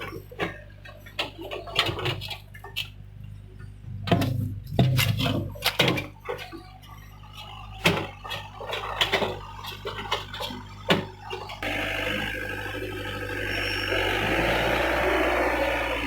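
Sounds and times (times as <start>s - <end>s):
excavator engine hum: 0.0s - 16.0s.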